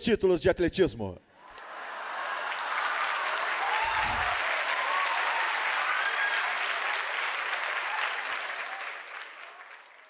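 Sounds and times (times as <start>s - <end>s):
audience applauding: 1.5s - 10.0s.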